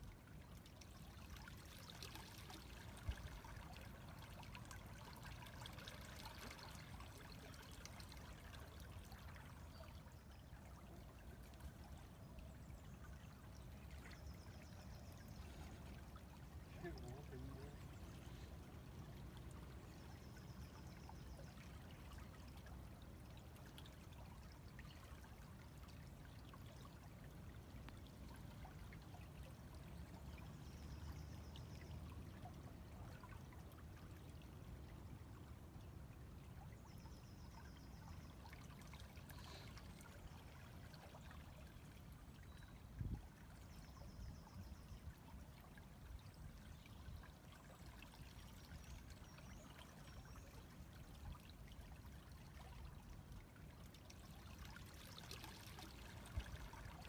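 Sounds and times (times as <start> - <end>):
small water splashes: 0.0 - 57.0.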